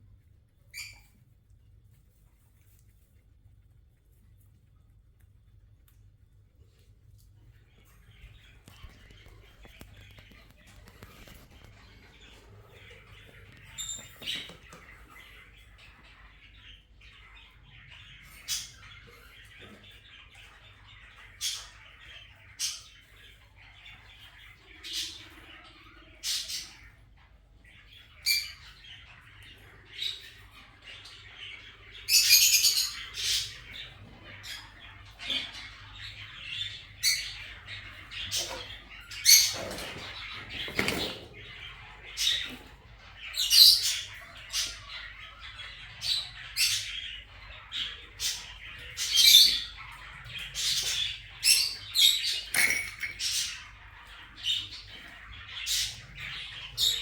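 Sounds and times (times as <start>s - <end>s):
parakeets chirping and squawking: 0.7s - 1.2s, 7.5s - 57.0s.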